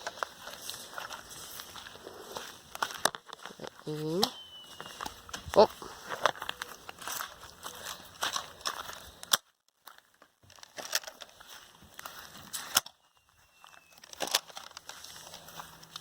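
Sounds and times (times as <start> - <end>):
footsteps: 0.0 - 16.0.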